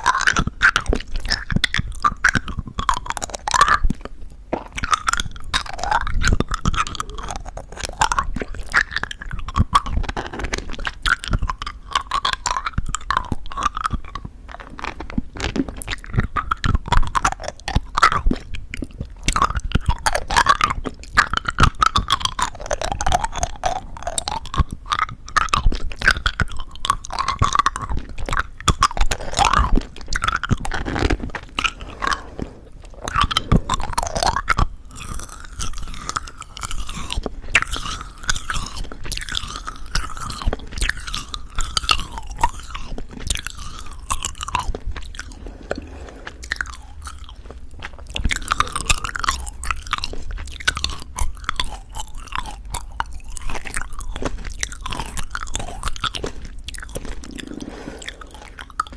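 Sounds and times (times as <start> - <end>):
crunching candy coating: 0.0 - 58.9
wet chewing: 0.0 - 58.9.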